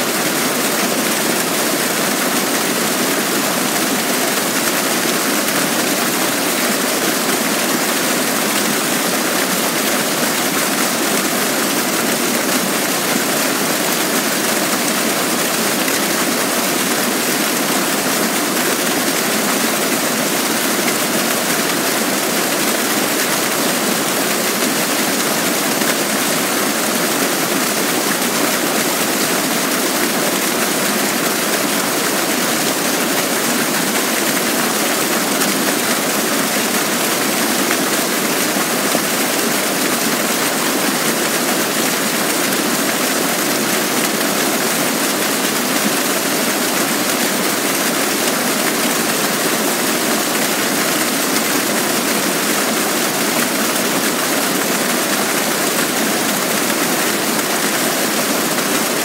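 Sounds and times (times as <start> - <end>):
waterfall rushing onto rocks: 0.0 - 59.0.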